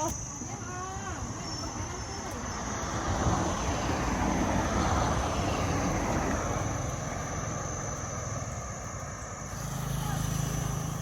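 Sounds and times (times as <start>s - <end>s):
motorbike engine and wind rumble: 0.0s - 11.0s.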